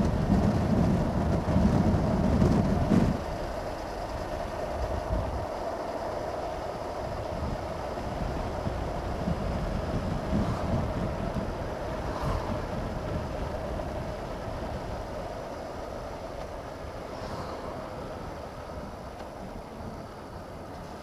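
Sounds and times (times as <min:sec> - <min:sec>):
wind rushing over camera: 0:00.0 - 0:21.0.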